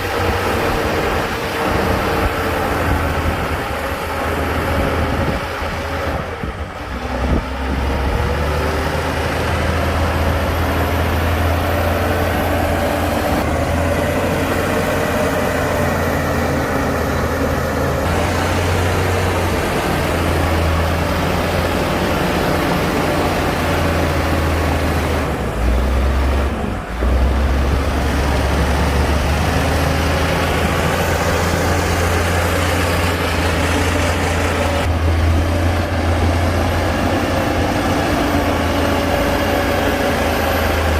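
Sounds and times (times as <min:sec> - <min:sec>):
heavy diesel machinery rumbling: 0:00.0 - 0:40.9.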